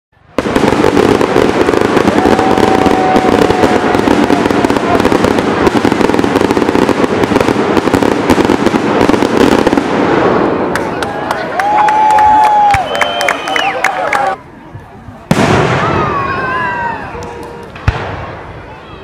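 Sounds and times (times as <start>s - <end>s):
fireworks crackling and popping: 0.2s - 19.0s.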